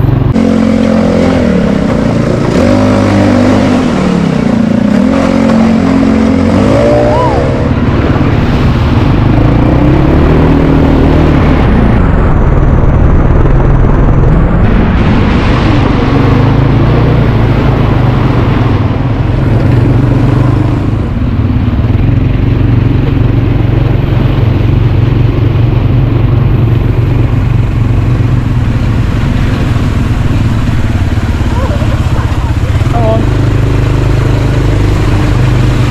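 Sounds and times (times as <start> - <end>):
quad bike engine running: 0.0 - 35.9.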